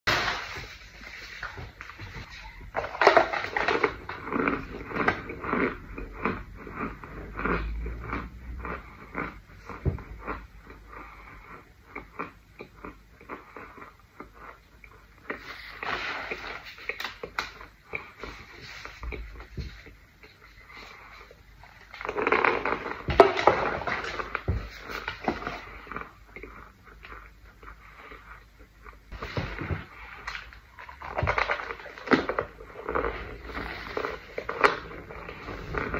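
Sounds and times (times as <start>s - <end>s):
crunchy chewing: 2.2s - 35.9s.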